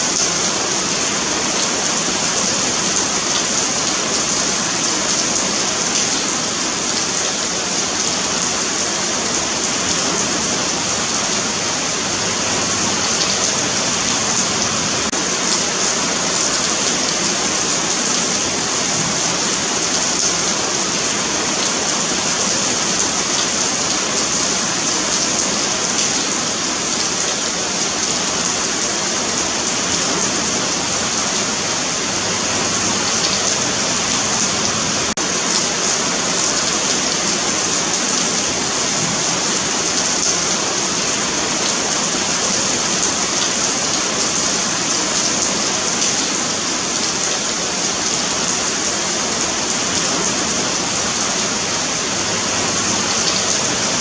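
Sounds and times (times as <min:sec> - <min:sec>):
rain on pavement: 0:00.0 - 0:54.0.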